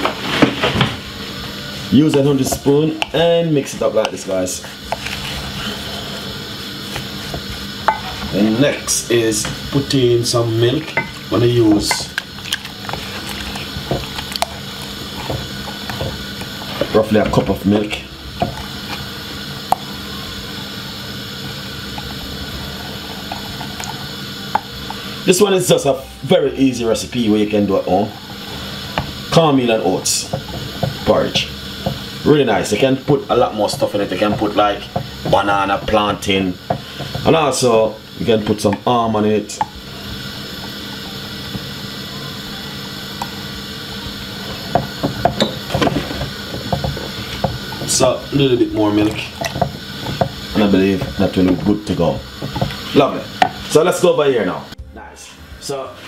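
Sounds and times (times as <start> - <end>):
steady background hum: 0.0 - 56.0
wooden spoon stirring mixture: 1.2 - 25.6, 26.7 - 54.8.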